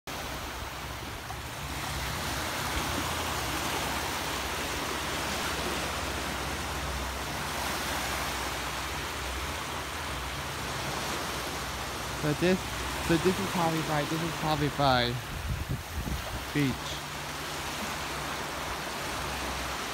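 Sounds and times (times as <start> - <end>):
small waves breaking on sand: 0.1 - 19.9.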